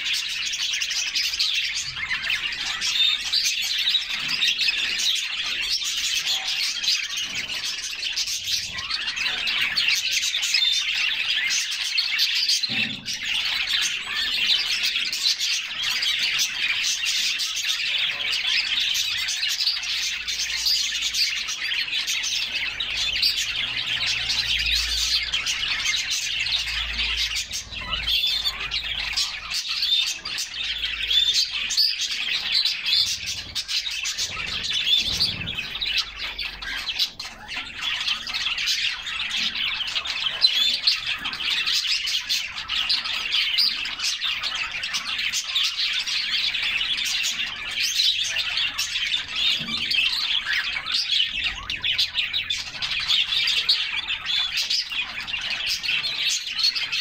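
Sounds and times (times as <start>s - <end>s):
canaries chirping and singing: 0.0s - 57.0s.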